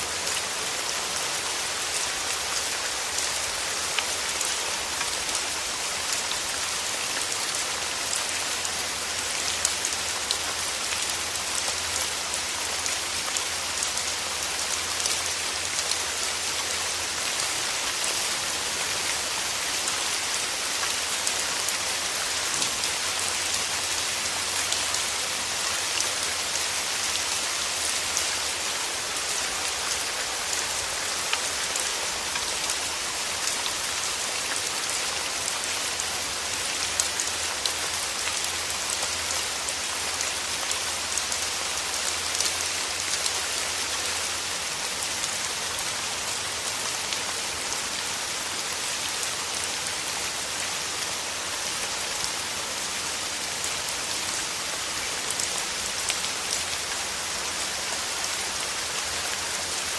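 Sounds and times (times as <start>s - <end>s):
rain hissing on leaves: 0.0s - 59.9s.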